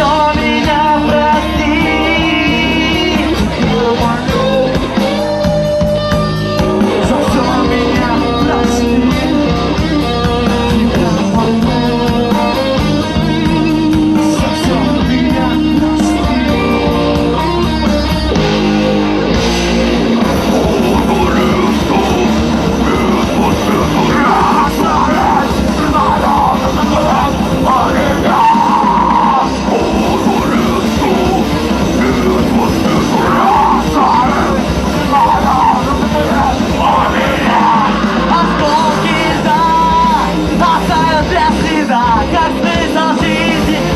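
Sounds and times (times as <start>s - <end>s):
person singing and yelling: 0.0s - 18.4s, 20.1s - 43.9s
rock band playing: 0.0s - 43.9s.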